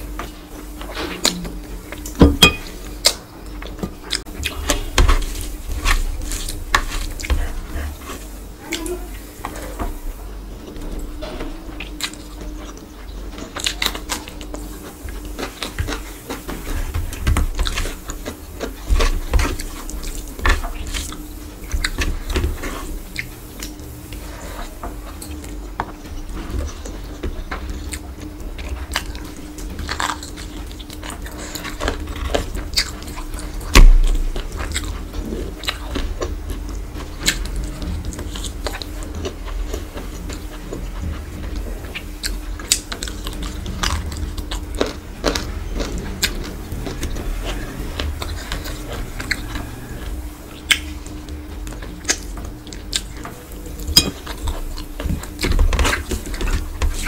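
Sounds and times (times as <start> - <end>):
chewing: 10.6 - 57.0.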